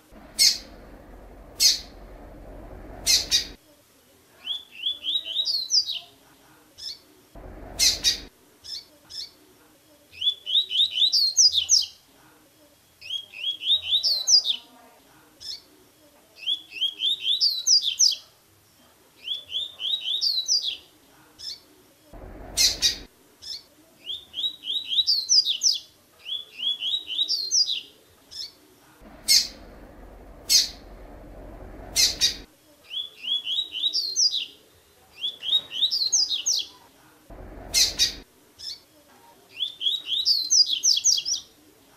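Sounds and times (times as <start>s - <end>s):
songbird singing: 0.0s - 3.6s, 4.4s - 6.2s, 6.8s - 12.1s, 13.0s - 14.8s, 16.3s - 18.2s, 19.2s - 41.6s.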